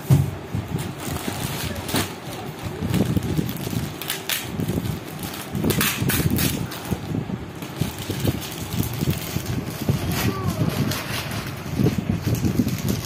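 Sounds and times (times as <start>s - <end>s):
steady low rumble: 0.0s - 13.0s
plastic bag crinkling: 0.9s - 13.0s.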